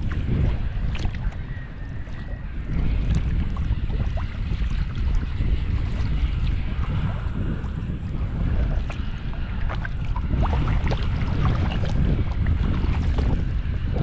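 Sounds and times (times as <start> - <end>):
water splashing against kayak: 0.0 - 14.0
wind buffeting microphone: 0.0 - 14.0.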